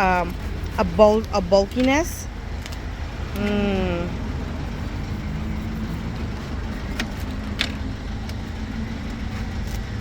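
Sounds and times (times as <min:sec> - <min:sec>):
car engine rumble: 0:00.0 - 0:10.0
road noise: 0:00.0 - 0:10.0.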